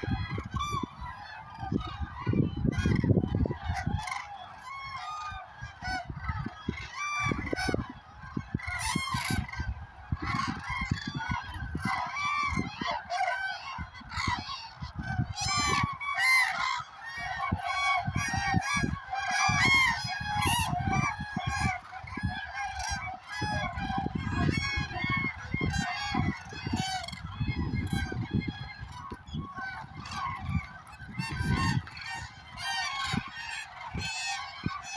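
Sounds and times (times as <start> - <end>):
cranes trumpeting calls: 2.8 - 34.9.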